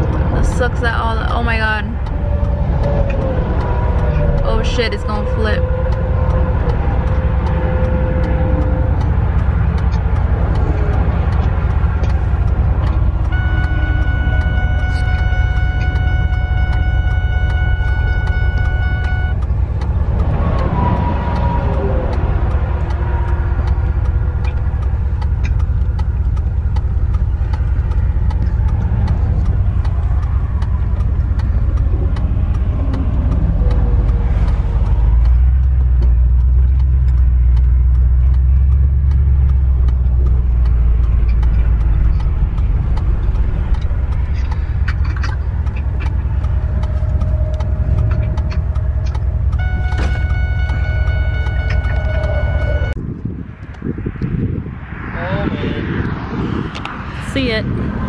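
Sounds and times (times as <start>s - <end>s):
pickup engine rumble: 0.0s - 58.0s
road noise: 0.0s - 58.0s.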